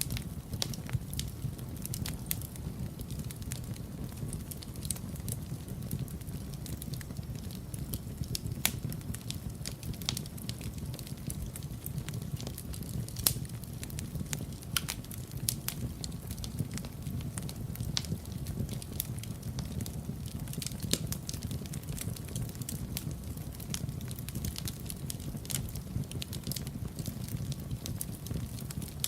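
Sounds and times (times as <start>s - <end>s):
rumble of fire flames: 0.0s - 29.0s
wood fire crackling and popping: 0.0s - 29.0s.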